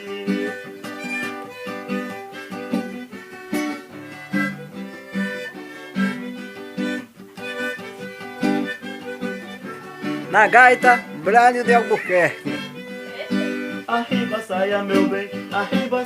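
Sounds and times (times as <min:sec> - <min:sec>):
instrumental melody line: 0:00.0 - 0:16.0
plucked guitar chords: 0:00.0 - 0:16.0.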